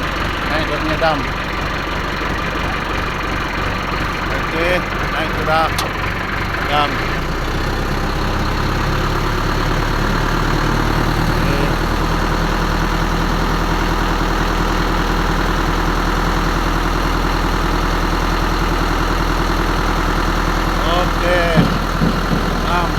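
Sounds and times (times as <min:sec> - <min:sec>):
truck engine running: 0:00.0 - 0:22.9.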